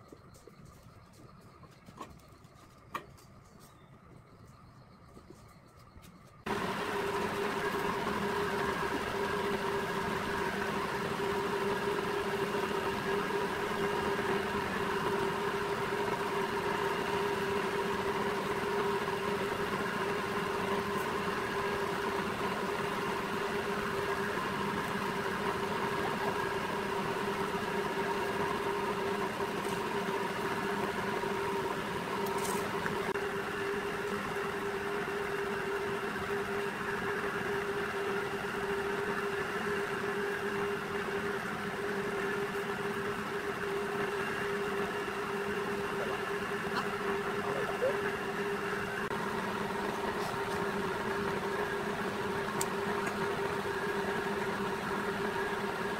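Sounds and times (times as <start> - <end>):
tube bender motor humming: 0.0 - 55.9.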